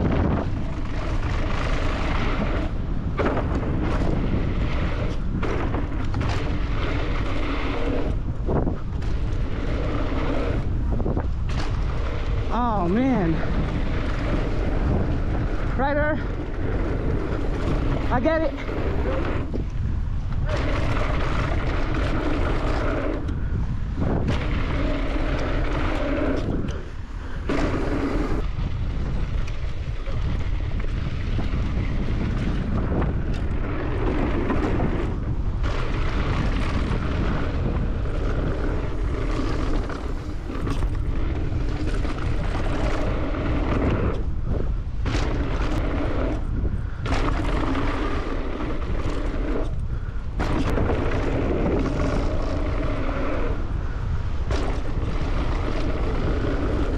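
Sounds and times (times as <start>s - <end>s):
bike tyres rolling on dirt: 0.0s - 56.9s
wind buffeting microphone: 0.0s - 56.9s.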